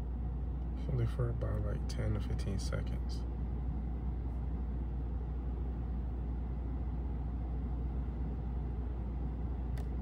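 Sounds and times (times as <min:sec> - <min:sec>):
low rumble inside parked car: 0:00.0 - 0:10.0.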